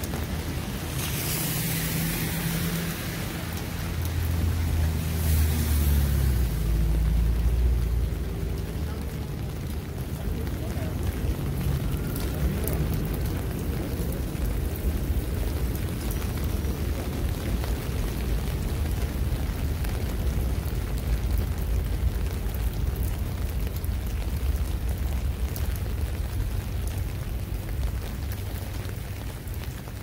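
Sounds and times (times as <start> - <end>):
rain on wet street: 0.0 - 30.0.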